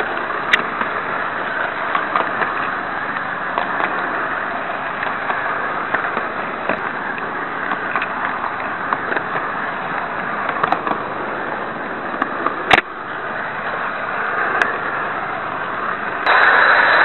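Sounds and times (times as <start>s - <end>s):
clicks and crackles: 0.0s - 15.0s
model train rushing noise: 0.0s - 17.0s.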